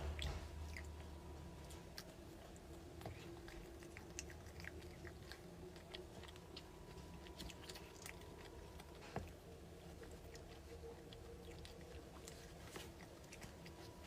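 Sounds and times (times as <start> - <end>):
person chewing: 0.0 - 14.0.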